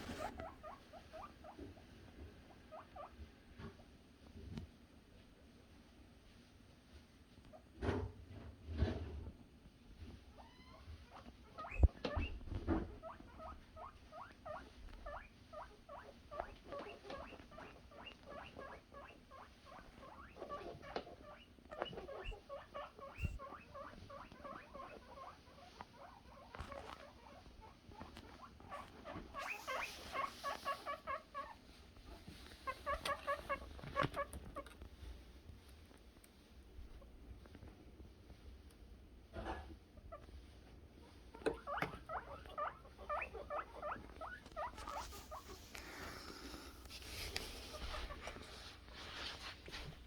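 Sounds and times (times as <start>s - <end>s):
guinea pigs squeaking: 0.0s - 3.9s, 10.0s - 36.0s, 39.4s - 50.0s.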